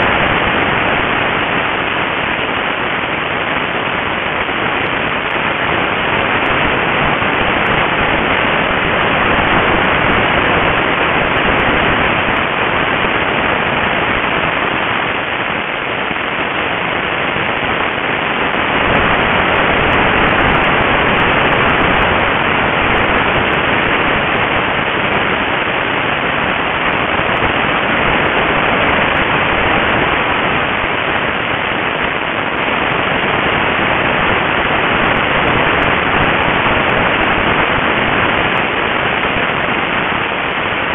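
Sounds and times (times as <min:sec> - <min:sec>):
rushing wind: 0:00.0 - 0:40.9.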